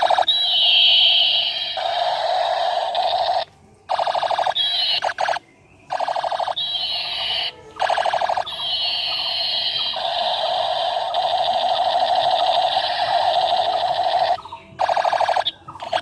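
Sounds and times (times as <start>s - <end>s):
electronic siren-like tones: 0.0s - 16.0s.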